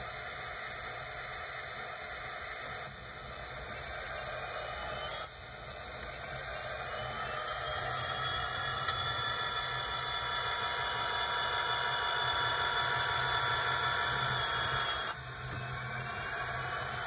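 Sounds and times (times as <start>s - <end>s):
diesel engine drone from small speaker: 0.0s - 17.0s.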